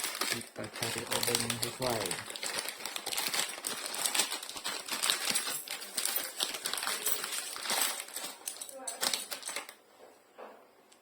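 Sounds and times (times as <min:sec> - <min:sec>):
small tools clinking: 0:00.0 - 0:09.8.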